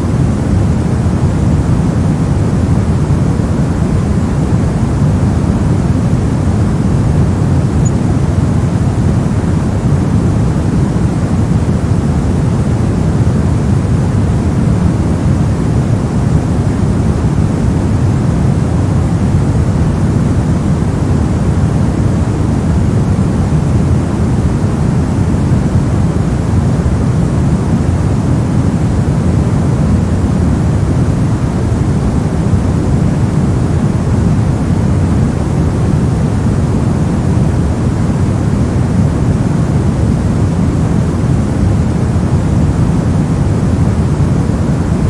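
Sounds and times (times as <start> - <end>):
deep low noise rush: 0.0 - 45.0.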